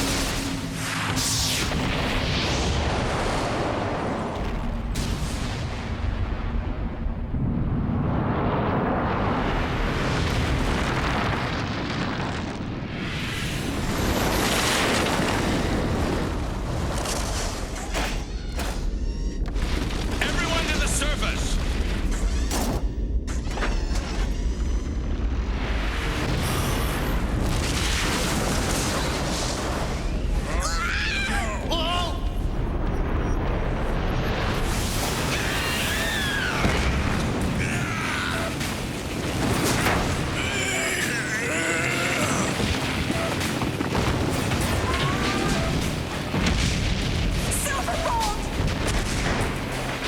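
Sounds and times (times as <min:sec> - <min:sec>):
rumbling explosion sound effects: 0:00.0 - 0:17.8, 0:24.1 - 0:50.0.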